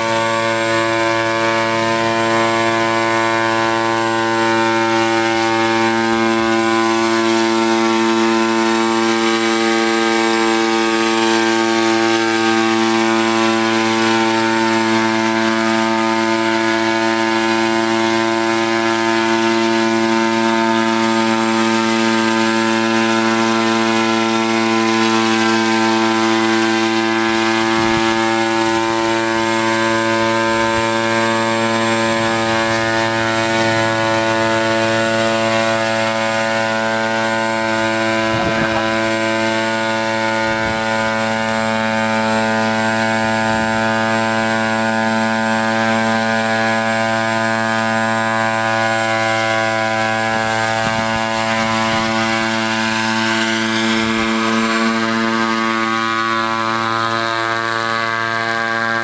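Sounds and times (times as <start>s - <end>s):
engine drone in flight: 0.0s - 59.0s.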